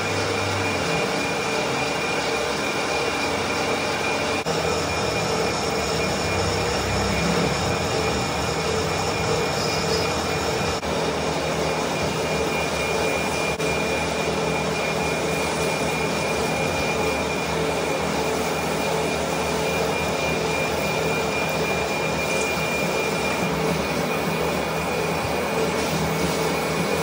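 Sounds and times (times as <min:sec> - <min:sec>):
metal lathe running: 0:00.0 - 0:27.0
steady high tone: 0:00.0 - 0:27.0.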